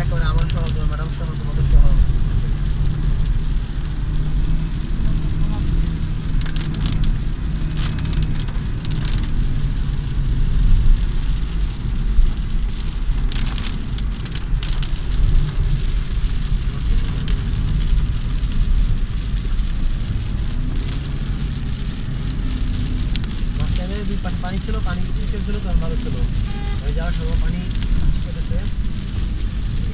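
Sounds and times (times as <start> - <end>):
car rumbling on the road: 0.0 - 29.9
heavy rain on a car: 0.0 - 29.9
rushes of rain and spray: 0.0 - 29.9.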